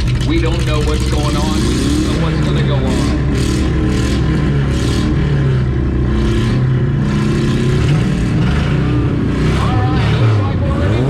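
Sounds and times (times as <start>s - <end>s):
car engines revving unevenly: 0.0s - 11.0s.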